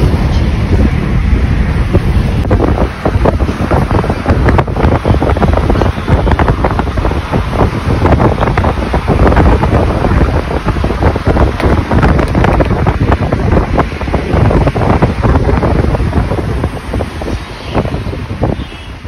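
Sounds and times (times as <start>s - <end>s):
road and traffic noise: 0.0s - 19.0s
wind buffeting microphone: 0.0s - 19.0s.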